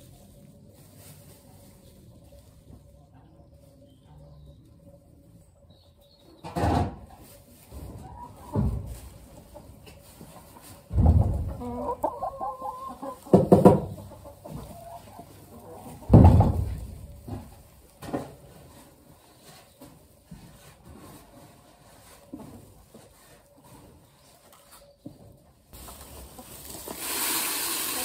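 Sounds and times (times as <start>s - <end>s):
hens clucking: 0.1s - 24.9s, 25.7s - 28.0s.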